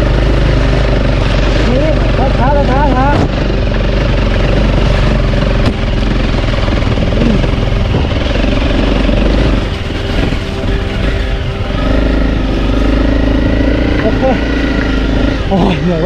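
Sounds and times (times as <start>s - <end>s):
motorcycle engine running: 0.0s - 16.0s
steady rushing noise: 0.0s - 16.0s.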